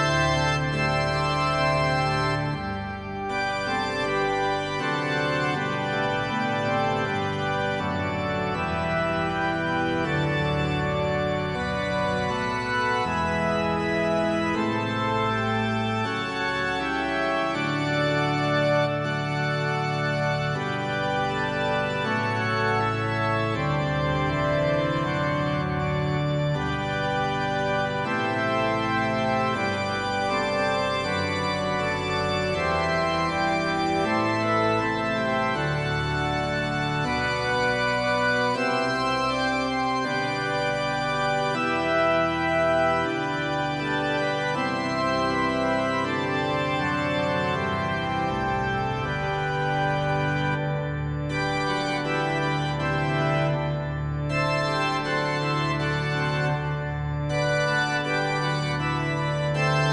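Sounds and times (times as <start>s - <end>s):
organ chords: 0.0s - 59.9s.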